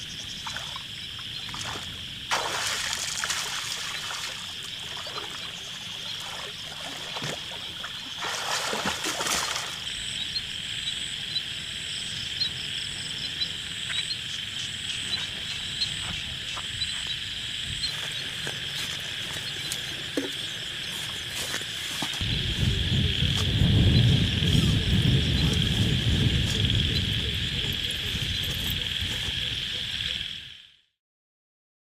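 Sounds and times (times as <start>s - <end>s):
high-pitched insect trill: 0.0s - 30.7s.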